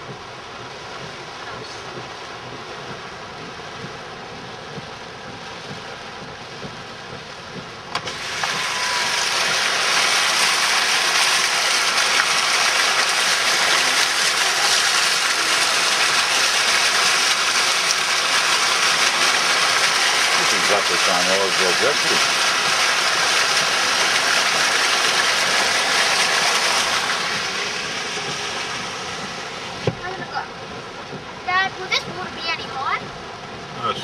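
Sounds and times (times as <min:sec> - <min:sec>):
car driving through floodwater: 0:00.0 - 0:34.0.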